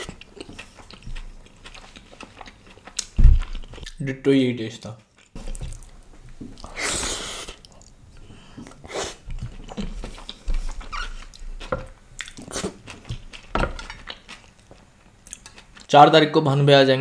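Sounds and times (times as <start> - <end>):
man chewing and smacking: 0.0 - 4.0, 4.8 - 6.8, 7.5 - 8.0, 8.6 - 15.9.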